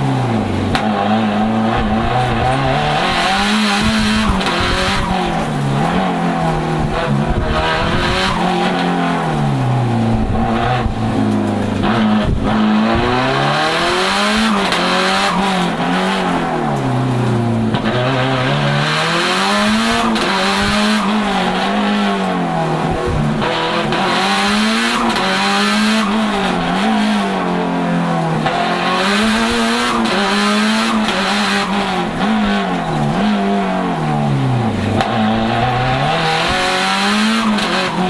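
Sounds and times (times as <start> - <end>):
race car engine revving: 0.0 - 38.0.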